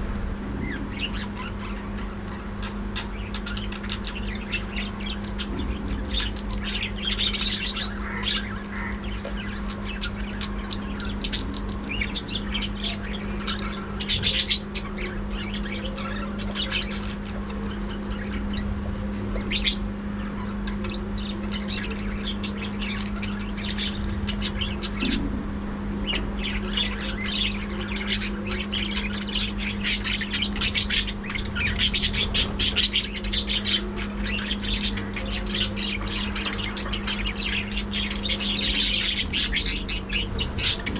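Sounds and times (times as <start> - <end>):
budgerigars chattering: 0.0 - 40.9
steady low hum: 0.0 - 40.9.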